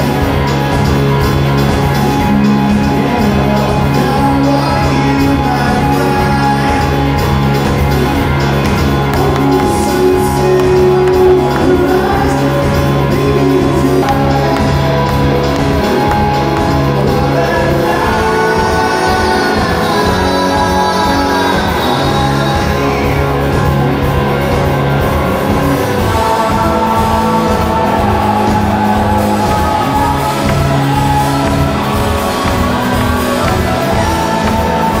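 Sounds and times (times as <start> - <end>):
live rock band: 0.0 - 35.0
man singing: 1.9 - 7.8, 9.0 - 24.1, 25.5 - 35.0.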